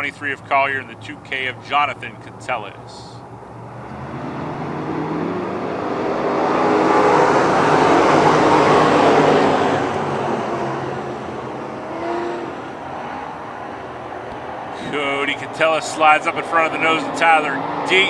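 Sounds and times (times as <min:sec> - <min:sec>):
race cars passing: 0:00.0 - 0:18.0.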